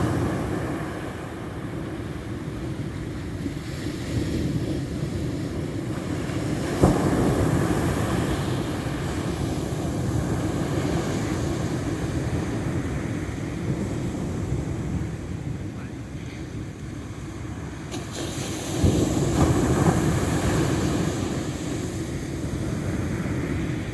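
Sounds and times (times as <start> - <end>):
ocean surf washing: 0.0 - 23.9.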